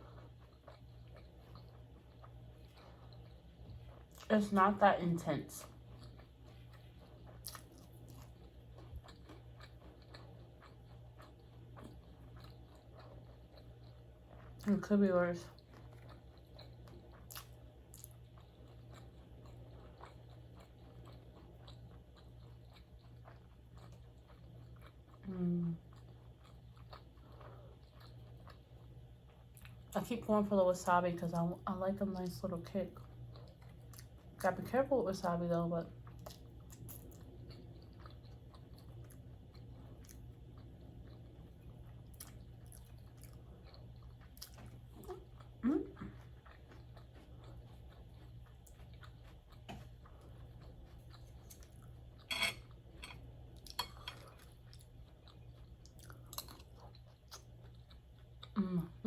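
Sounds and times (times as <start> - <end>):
close chewing: 0.0 - 4.6, 5.5 - 30.0, 35.8 - 59.0
steady low hum: 0.0 - 59.0.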